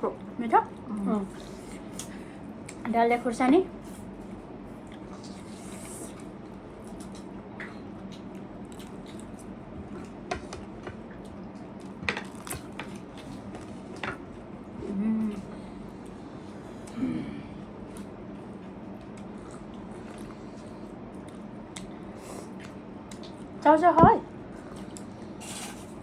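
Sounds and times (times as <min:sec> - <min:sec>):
soft wet eating noises: 0:00.1 - 0:02.9, 0:03.8 - 0:26.0.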